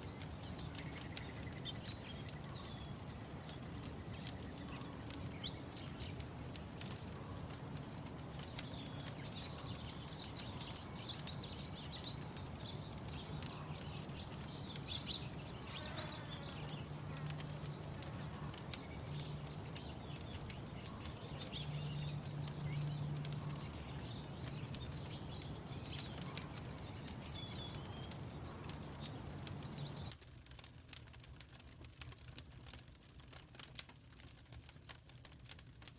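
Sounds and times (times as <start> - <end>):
birds chirping: 0.0 - 30.2
wood fire crackling: 0.0 - 35.9.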